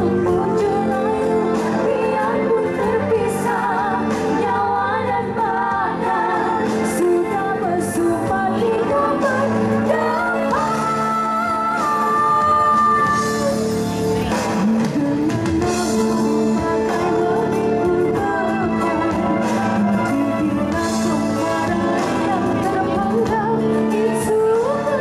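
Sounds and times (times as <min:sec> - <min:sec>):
band accompaniment: 0:00.0 - 0:25.0
woman singing into a microphone: 0:00.0 - 0:25.0.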